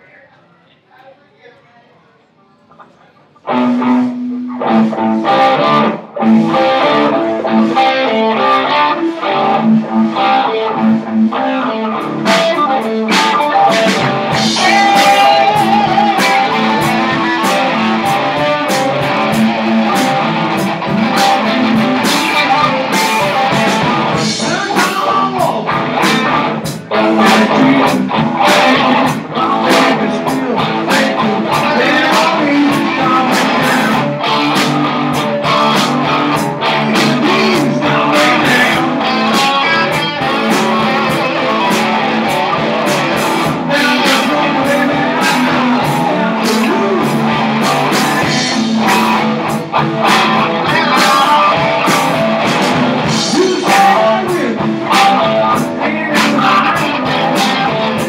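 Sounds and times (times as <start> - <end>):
blues guitar: 3.3 - 58.0.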